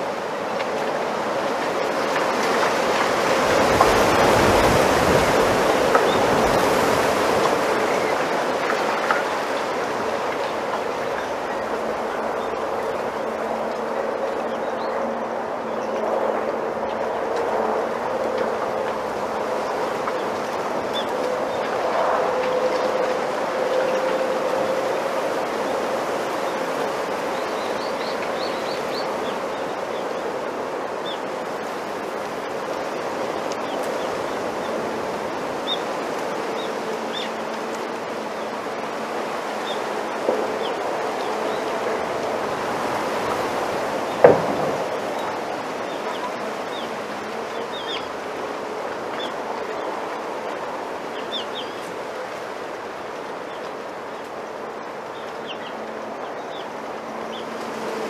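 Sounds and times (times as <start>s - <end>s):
leaves rustling in wind: 0.0s - 58.0s.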